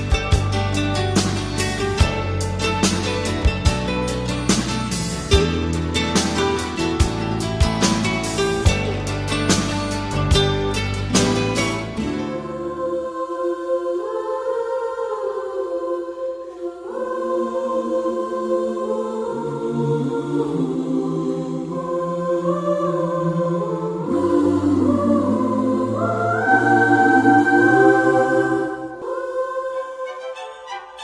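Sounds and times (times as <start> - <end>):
wordless choral chords: 0.0 - 31.0.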